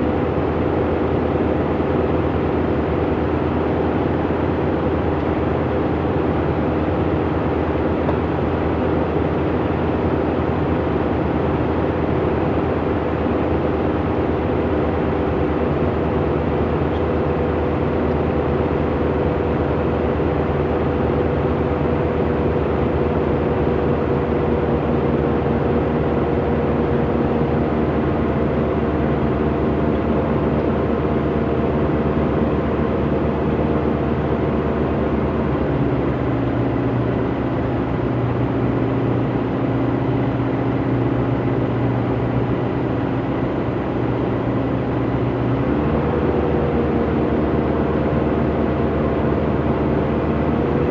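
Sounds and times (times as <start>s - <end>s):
light aircraft engine running: 0.0s - 50.9s.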